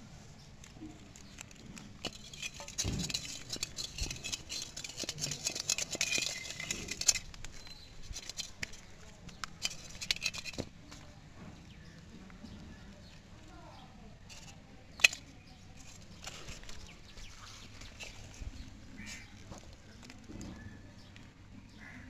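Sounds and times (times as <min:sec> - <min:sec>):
rustling of grass and dry leaves: 0:00.0 - 0:13.5, 0:14.2 - 0:20.4.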